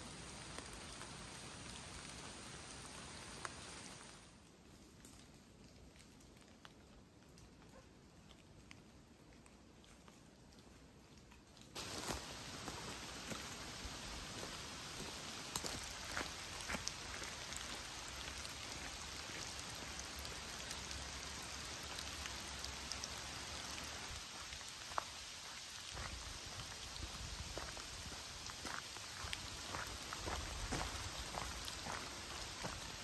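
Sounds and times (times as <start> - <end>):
rain falling on foliage: 0.0 - 33.0.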